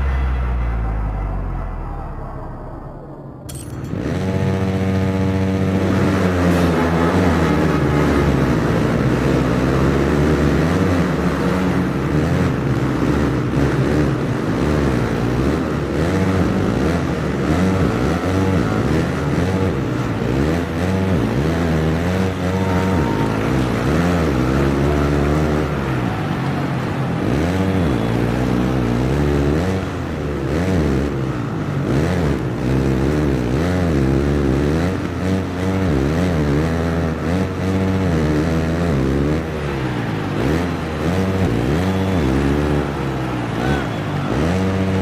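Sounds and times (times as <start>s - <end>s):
motocross bike engine revving: 3.5s - 45.0s.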